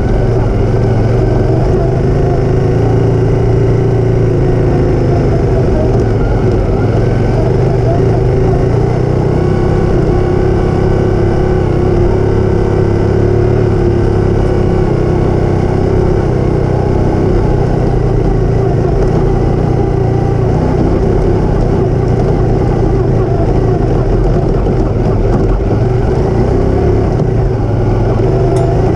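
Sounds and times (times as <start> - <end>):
motorcycle engine droning: 0.0 - 28.9.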